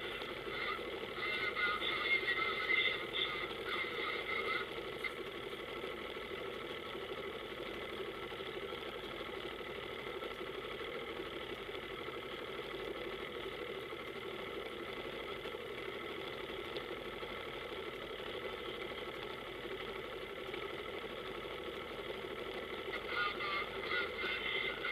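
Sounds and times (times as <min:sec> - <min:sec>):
powerboat engine droning: 0:00.0 - 0:24.9.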